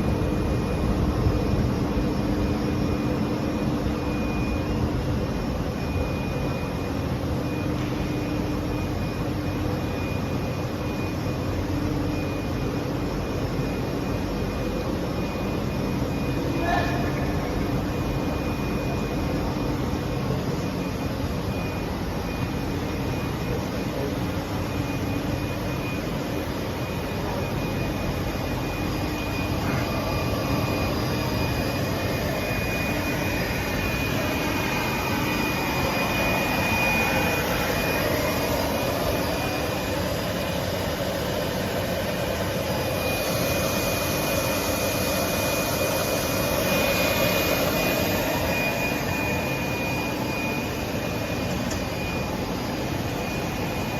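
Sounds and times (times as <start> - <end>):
mechanical drone of motors and blowers: 0.0 - 53.9
thin high whine: 0.0 - 53.9.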